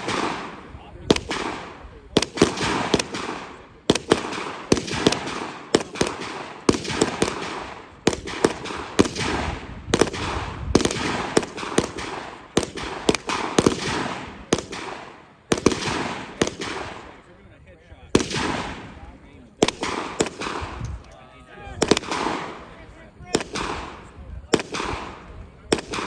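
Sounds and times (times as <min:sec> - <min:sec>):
gunshots with echo: 0:00.0 - 0:17.2, 0:18.2 - 0:21.0, 0:21.8 - 0:26.0.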